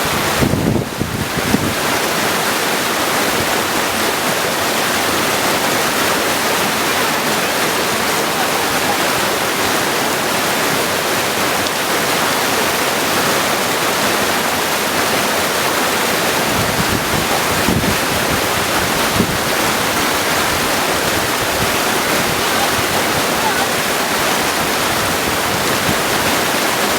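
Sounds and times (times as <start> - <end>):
stream rushing over stones: 0.0 - 26.9.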